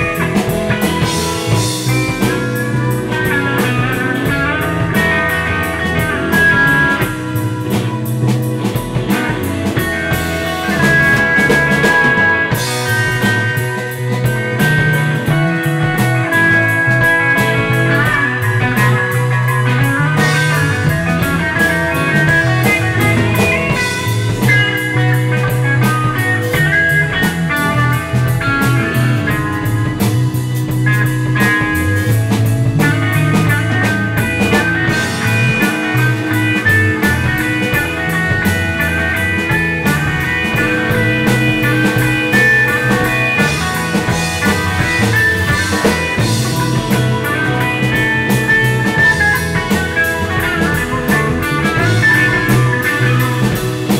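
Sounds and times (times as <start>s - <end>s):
bass guitar: 0.0s - 53.9s
drum kit: 0.0s - 53.9s
electric guitar lines: 0.0s - 53.9s.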